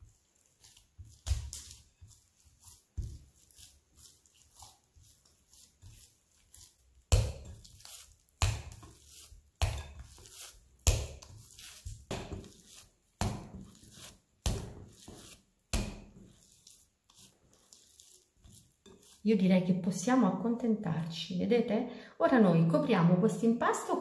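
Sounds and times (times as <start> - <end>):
dull thumps of dough: 0.0 - 19.2
dough kneaded by hand: 0.0 - 21.0.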